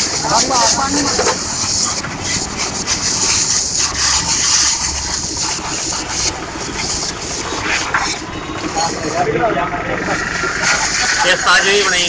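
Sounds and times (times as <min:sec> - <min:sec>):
hose water spraying on plastic: 0:00.0 - 0:09.2, 0:10.0 - 0:12.0.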